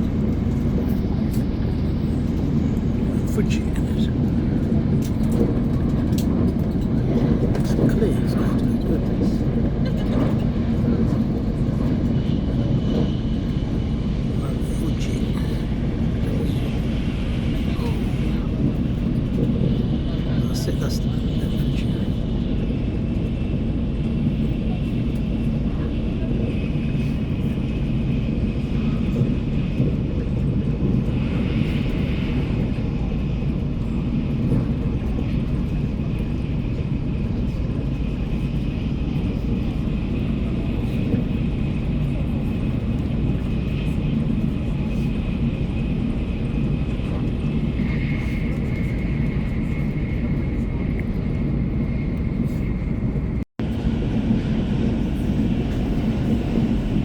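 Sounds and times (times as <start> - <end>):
train cabin rumble and rush: 0.0 - 57.0.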